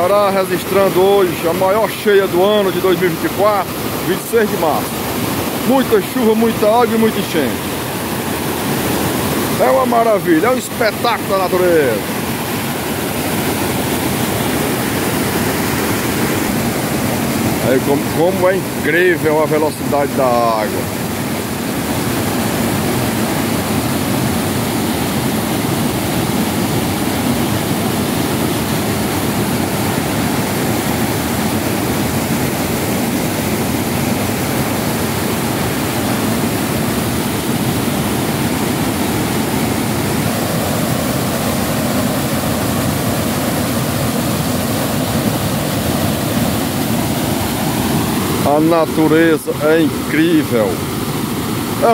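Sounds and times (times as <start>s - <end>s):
water rushing over spillway: 0.0s - 51.9s.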